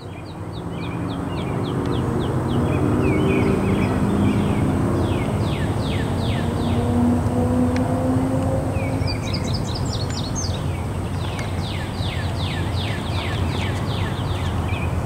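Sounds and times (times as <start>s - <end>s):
bird chirping: 0.0s - 7.1s, 8.0s - 15.0s.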